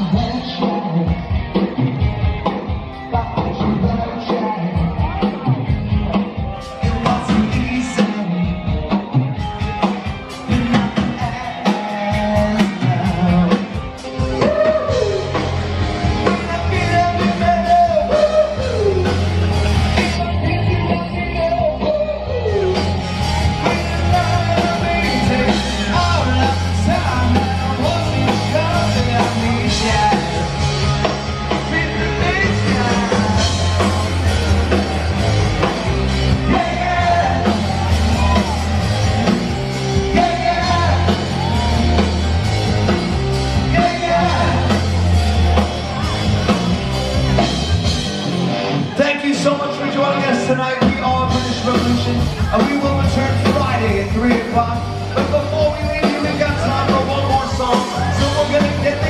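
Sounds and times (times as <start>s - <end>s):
lead singer: 0.0s - 59.0s
live rock band playing: 0.0s - 59.0s.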